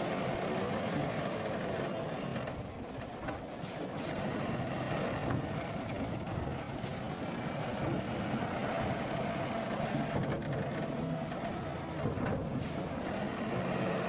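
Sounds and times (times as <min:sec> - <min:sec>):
diesel machinery rumbling: 0:00.0 - 0:14.0.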